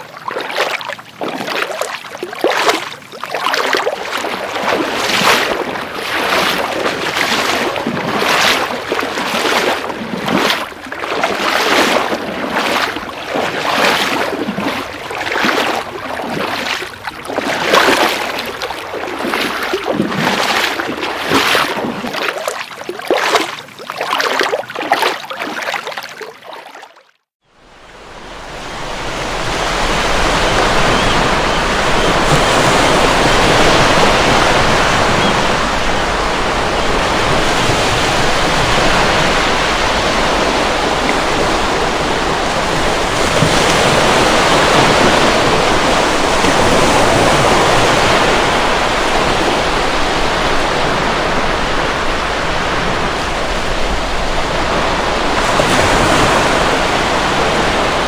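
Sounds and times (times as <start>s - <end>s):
ocean waves breaking: 2.4s - 22.2s, 27.5s - 58.0s.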